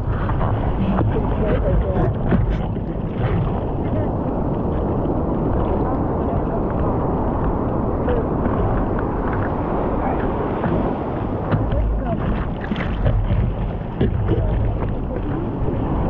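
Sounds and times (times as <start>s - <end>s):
seawater sloshing against surfboard: 0.0s - 16.0s.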